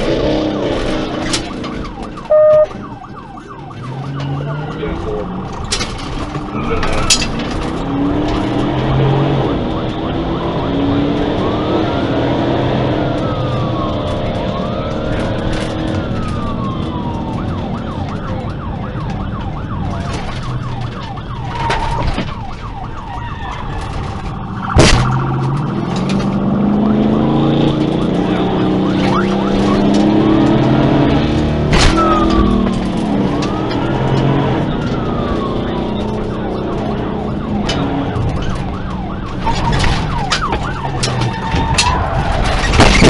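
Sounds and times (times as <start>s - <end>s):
car engine running hard: 0.0s - 2.7s, 3.6s - 21.4s, 23.6s - 43.0s
police siren wailing: 0.0s - 43.0s.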